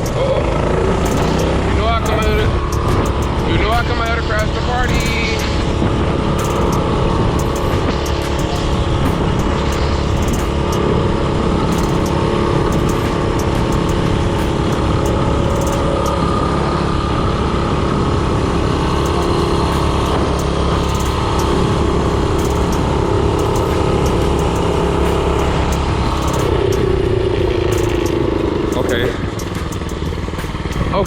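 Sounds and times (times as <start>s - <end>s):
mini bike engine running: 0.0s - 31.0s.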